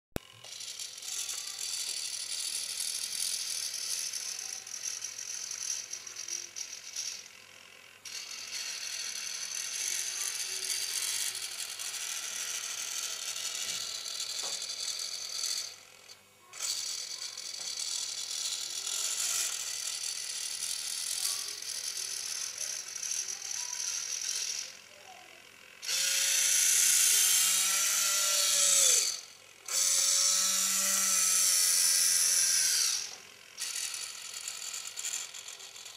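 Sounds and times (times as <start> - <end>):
electric motor whine: 0.2 - 35.9
gear whirr: 0.2 - 35.9.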